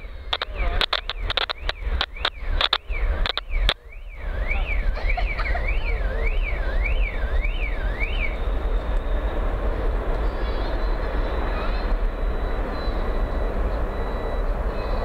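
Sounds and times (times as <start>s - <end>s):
distant jet engines roaring: 0.0s - 15.0s
warbling alarm tone: 0.0s - 15.0s.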